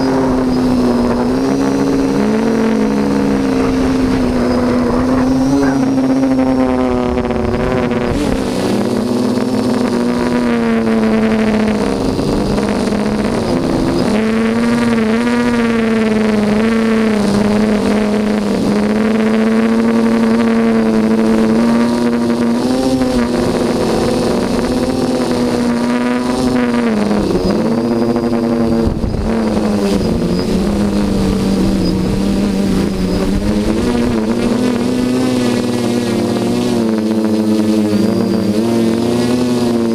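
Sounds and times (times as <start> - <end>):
drone motors buzzing whine: 0.0 - 39.9.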